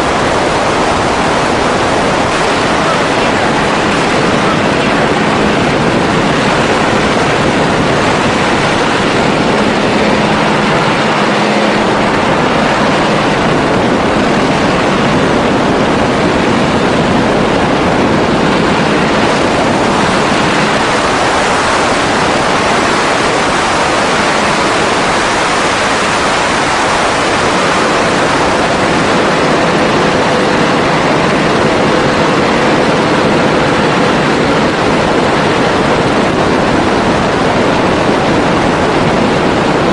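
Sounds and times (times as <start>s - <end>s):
faint hum: 0.0s - 37.3s
plane engine and propeller: 0.0s - 39.9s.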